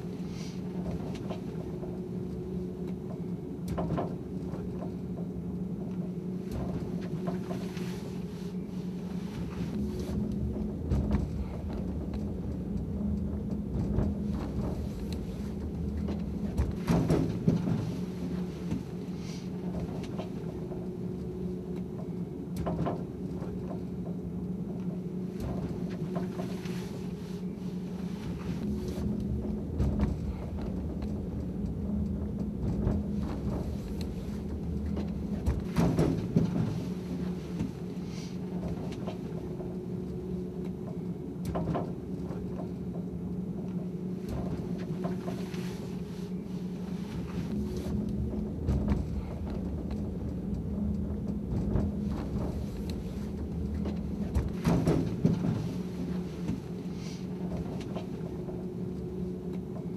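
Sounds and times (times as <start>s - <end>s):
funicular car humming: 0.0s - 59.9s.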